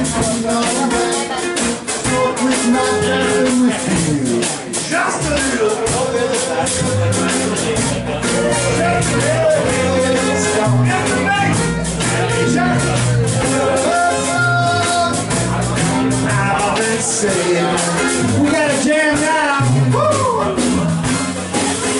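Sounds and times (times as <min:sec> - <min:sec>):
man singing: 0:00.0 - 0:21.0
drum kit beat: 0:00.0 - 0:21.9
electric guitar: 0:00.0 - 0:21.9
strummed acoustic guitar: 0:00.0 - 0:21.9.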